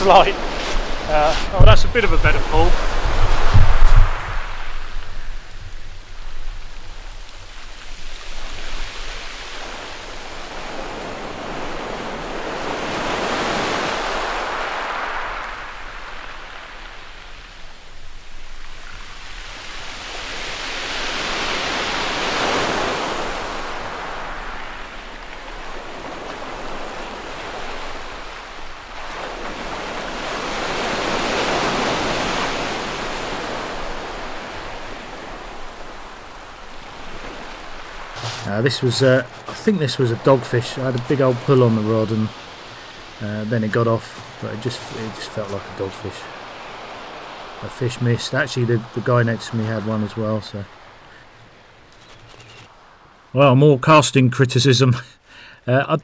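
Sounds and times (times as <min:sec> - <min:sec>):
waves breaking on shingle: 0:00.0 - 0:53.0.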